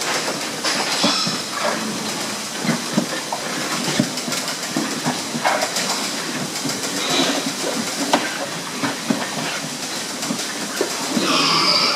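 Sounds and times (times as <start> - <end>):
pigs rooting and feeding: 0.0 - 11.9.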